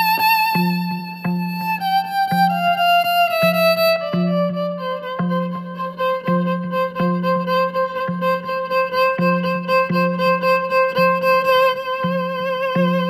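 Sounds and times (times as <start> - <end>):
low plucked accompaniment: 0.0 - 13.0.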